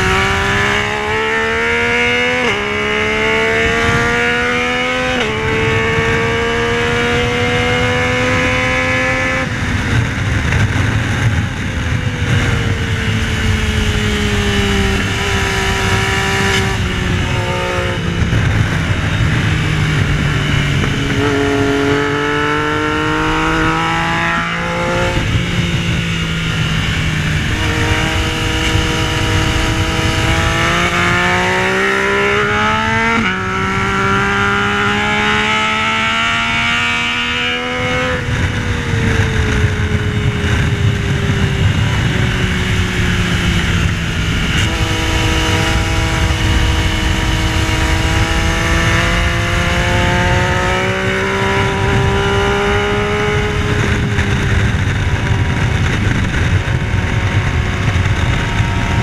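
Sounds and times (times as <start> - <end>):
motorcycle engine revving: 0.0 - 59.0
wind rushing: 0.0 - 59.0.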